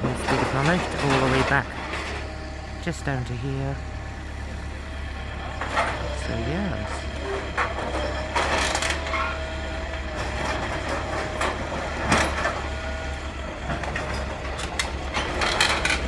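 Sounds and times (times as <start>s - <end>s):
demolition machinery rumbling: 0.0s - 16.0s.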